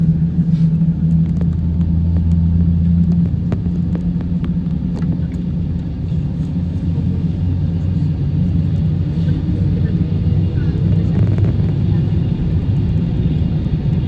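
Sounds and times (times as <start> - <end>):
airplane cabin engine drone: 0.0 - 14.0.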